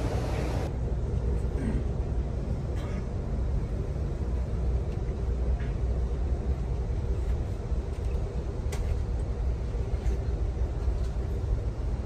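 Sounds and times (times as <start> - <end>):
train car rumble: 0.0 - 12.0.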